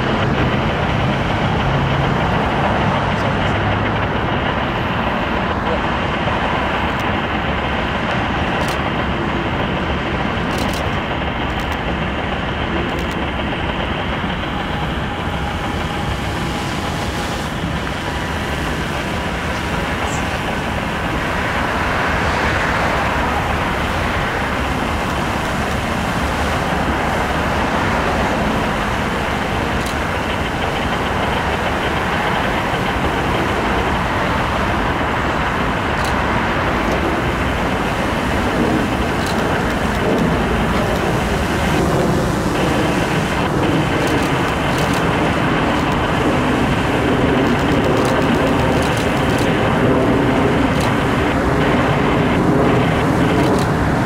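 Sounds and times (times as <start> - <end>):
road traffic hum: 0.0 - 54.0.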